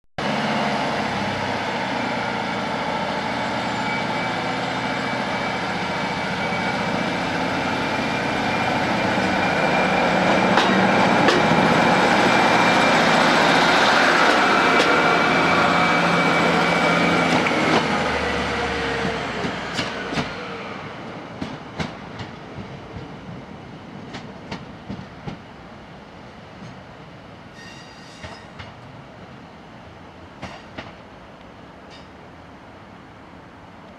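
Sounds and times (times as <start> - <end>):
diesel train passing: 0.2 - 33.9.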